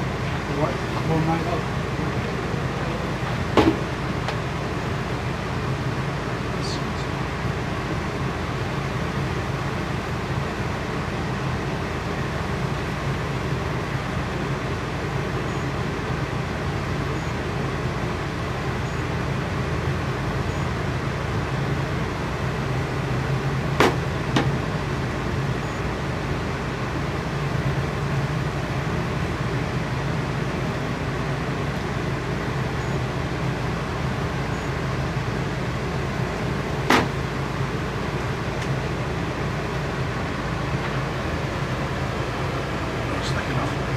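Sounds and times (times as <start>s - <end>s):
steady mechanical hum: 0.0s - 43.9s.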